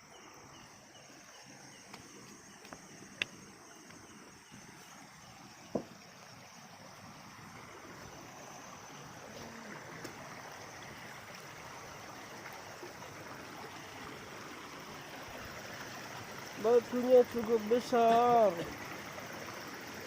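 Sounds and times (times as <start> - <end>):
stream water over rocks: 0.0 - 20.0.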